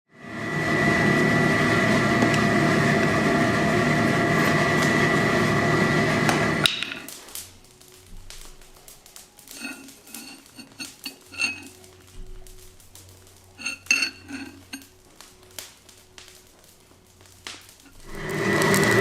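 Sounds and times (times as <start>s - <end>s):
machine drone with high whine: 0.1s - 19.0s.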